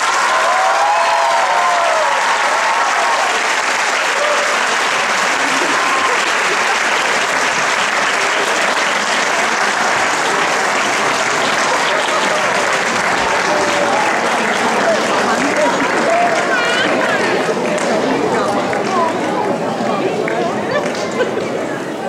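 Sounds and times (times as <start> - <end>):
audience applauding: 0.0 - 21.8.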